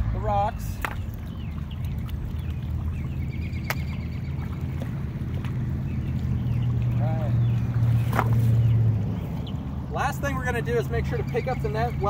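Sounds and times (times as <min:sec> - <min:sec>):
steady low rumble: 0:00.0 - 0:11.9
water splashing and trickling: 0:00.0 - 0:12.0.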